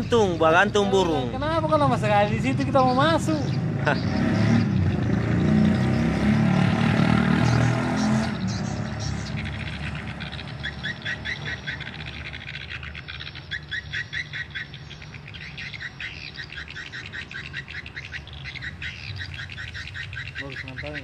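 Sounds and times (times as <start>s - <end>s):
birds twittering chirps: 0.0s - 21.0s.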